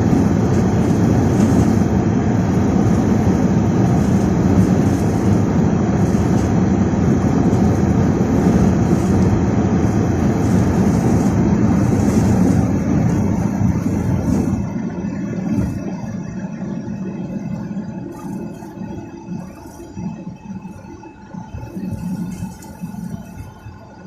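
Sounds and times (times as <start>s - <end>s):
moving vehicle travel noise: 0.0s - 24.0s
strong wind rumble: 0.0s - 24.0s.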